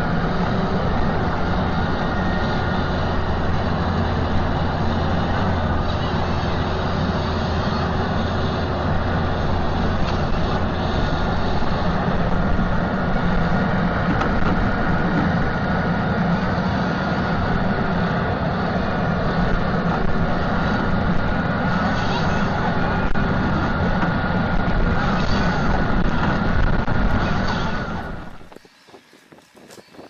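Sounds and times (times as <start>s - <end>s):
faint whine: 0.0s - 30.0s
low machinery engine hum: 0.0s - 30.0s.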